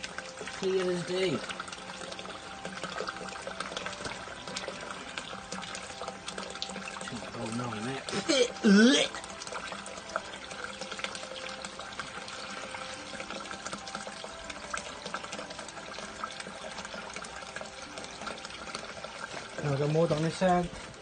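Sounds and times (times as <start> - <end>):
water trickling through drain: 0.0 - 21.0.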